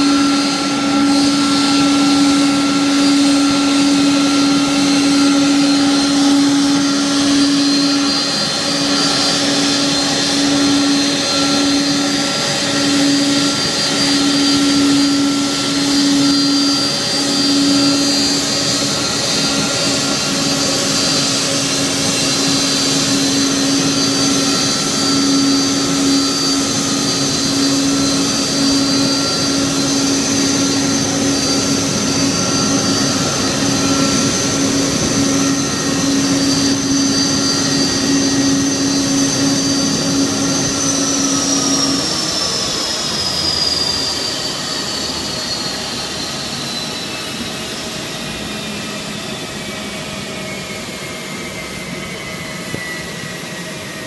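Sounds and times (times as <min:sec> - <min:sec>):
high engine whine: 0:00.0 - 0:54.0
jet engines roaring at idle: 0:00.0 - 0:54.0.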